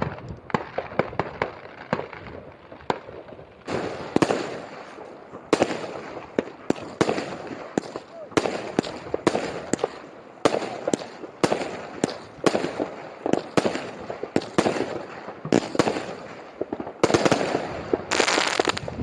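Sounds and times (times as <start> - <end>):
crackling firework volley: 0.0 - 19.0
fireworks bangs: 0.0 - 19.0.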